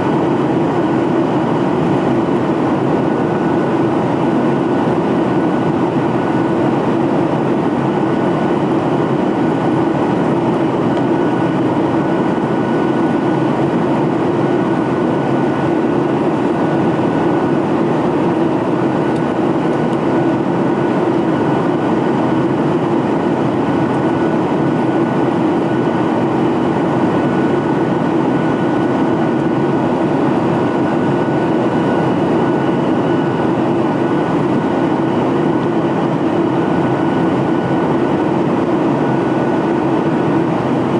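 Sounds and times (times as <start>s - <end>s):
jet engines rumbling with whine: 0.0s - 40.9s.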